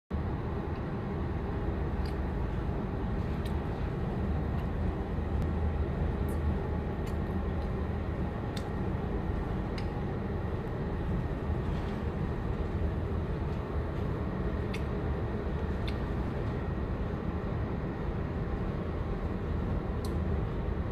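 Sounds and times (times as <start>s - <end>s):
ship engine low rumble: 0.1s - 20.9s.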